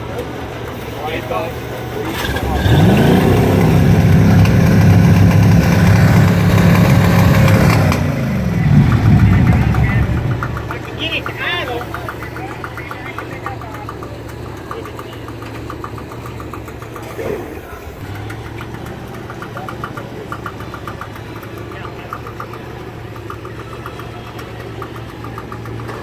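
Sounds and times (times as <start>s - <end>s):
boat engine idling: 0.0s - 26.0s.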